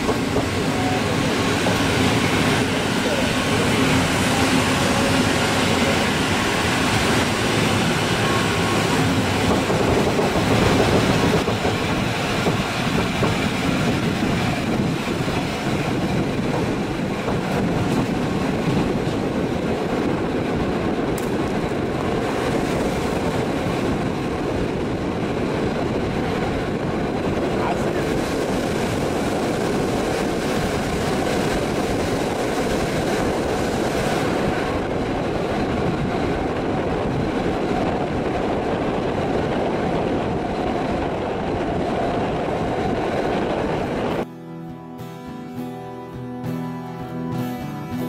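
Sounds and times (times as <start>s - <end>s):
train wheels on rails: 0.0s - 44.3s.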